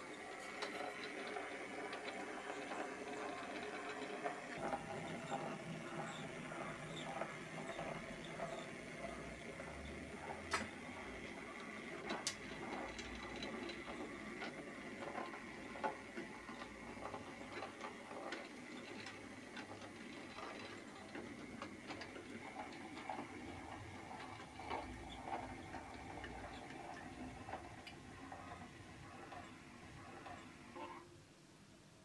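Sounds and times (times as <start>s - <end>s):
model train wheels clicking: 0.0s - 31.1s
faint motor whine: 0.0s - 32.0s.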